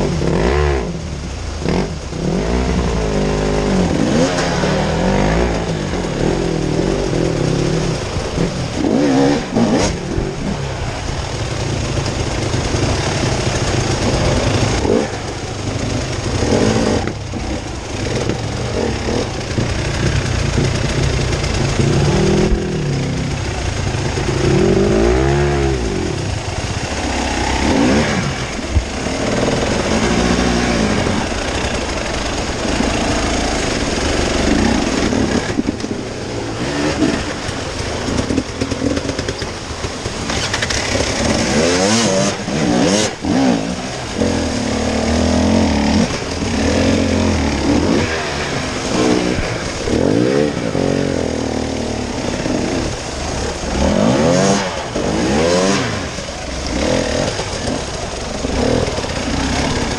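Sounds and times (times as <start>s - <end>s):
motorcycle engine revving: 0.0s - 59.9s
wind and road noise: 0.0s - 59.9s.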